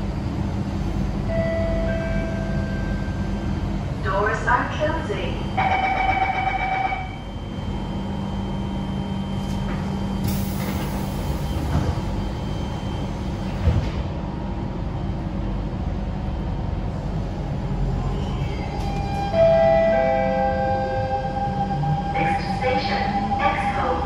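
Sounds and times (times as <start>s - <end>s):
train running hum: 0.0s - 24.0s.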